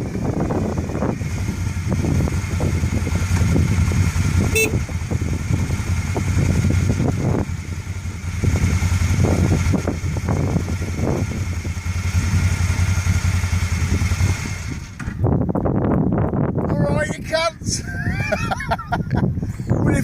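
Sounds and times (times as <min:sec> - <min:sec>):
quad bike engine chugging: 0:00.0 - 0:17.0.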